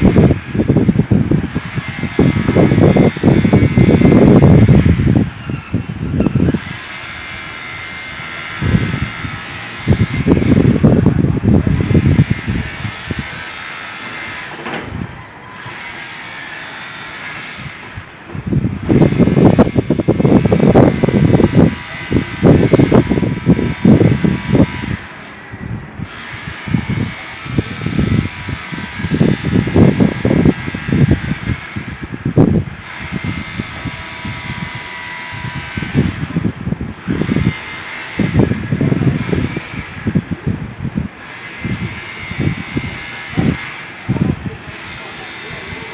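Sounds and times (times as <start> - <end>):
demolition hammer chiselling concrete: 0.0 - 5.3, 6.4 - 25.4, 26.0 - 40.5, 41.1 - 45.9
steady mechanical hum: 0.0 - 45.9.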